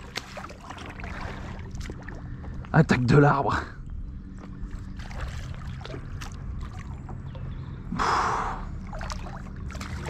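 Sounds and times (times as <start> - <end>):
water lapping around kayak: 0.0 - 10.0.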